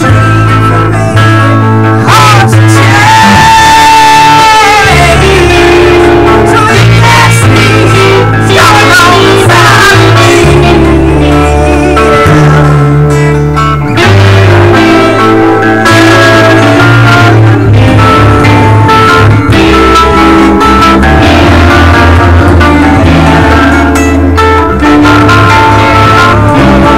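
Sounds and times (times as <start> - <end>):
rock band playing heavy riff: 0.0 - 26.9.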